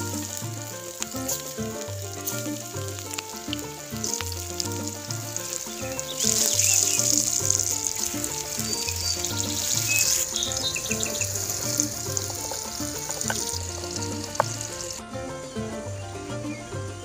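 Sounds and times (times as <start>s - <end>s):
food sizzling in hot oil: 0.0s - 15.0s
background music with bass line: 0.0s - 17.0s.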